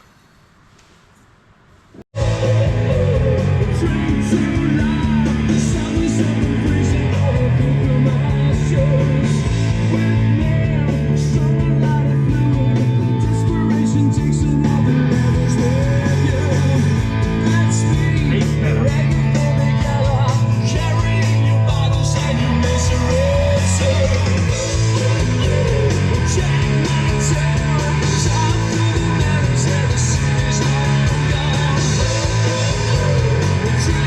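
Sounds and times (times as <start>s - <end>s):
rock music with singing: 2.2s - 34.0s.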